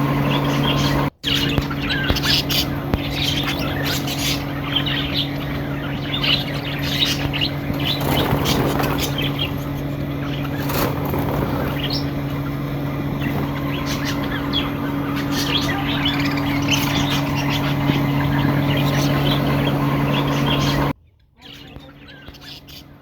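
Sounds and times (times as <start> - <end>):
lovebirds chirping: 0.0 - 23.0
steady low hum: 0.0 - 23.0.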